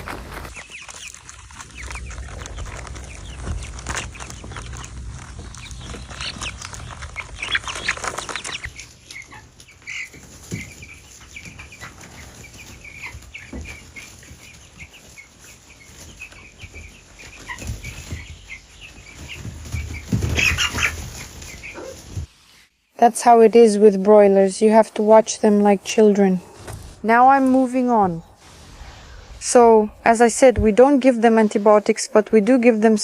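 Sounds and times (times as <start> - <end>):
rustling: 0.0 - 22.7, 26.4 - 31.8
chicks peeping: 0.0 - 33.0.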